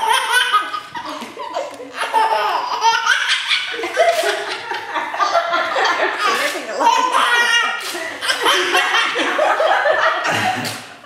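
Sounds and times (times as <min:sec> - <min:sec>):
baby laughing hard: 0:00.0 - 0:10.8.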